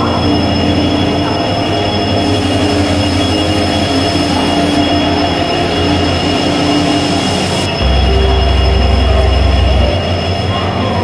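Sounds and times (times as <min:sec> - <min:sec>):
diesel locomotive engine running: 0:00.0 - 0:11.0
thin high whine: 0:00.0 - 0:11.0.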